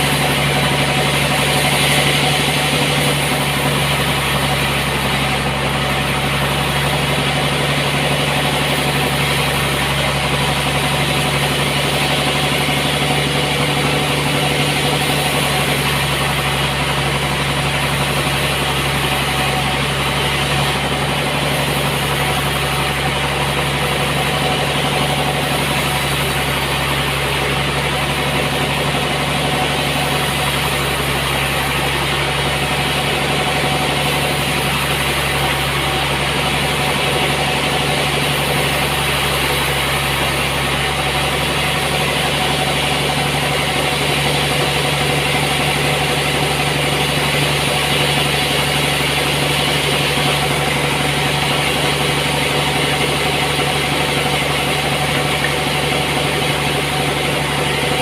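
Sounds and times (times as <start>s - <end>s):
sawmill machinery motor hum: 0.0s - 58.0s.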